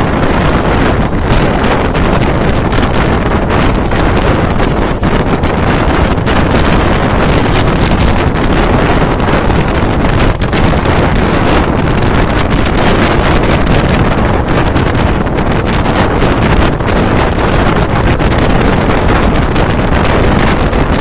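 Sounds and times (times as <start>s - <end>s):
train running on track: 0.0s - 21.0s
wind buffeting microphone: 0.0s - 21.0s.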